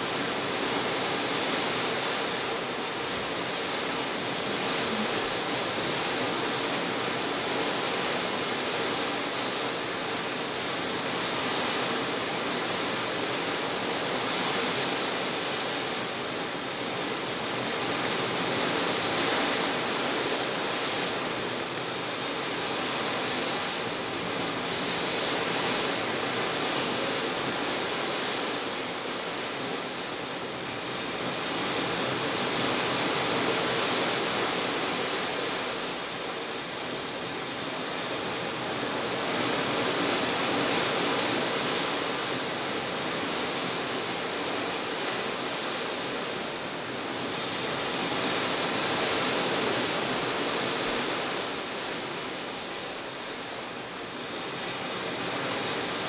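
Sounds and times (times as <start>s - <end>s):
wind and sea rushing: 0.0s - 56.0s.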